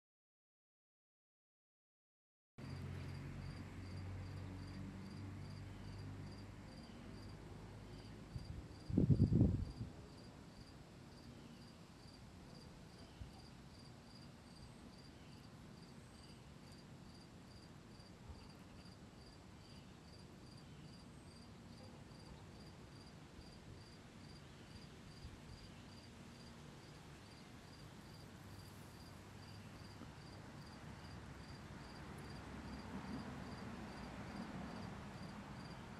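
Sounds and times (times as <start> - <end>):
cricket chirping: 2.6 - 35.9.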